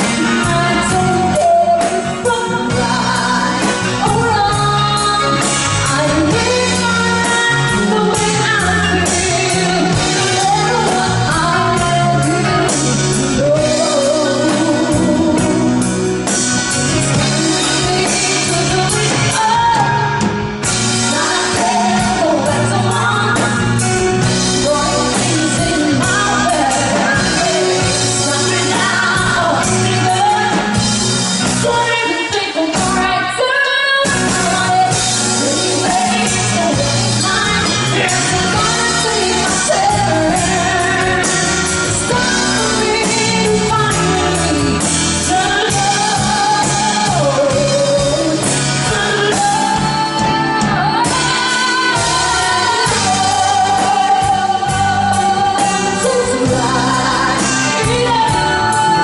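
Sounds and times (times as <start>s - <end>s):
band playing pop ballad: 0.0s - 59.0s
lead vocalist singing: 0.0s - 59.0s.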